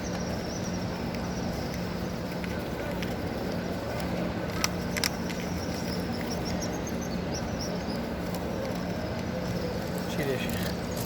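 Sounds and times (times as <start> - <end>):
crowd ambience: 0.0 - 11.0.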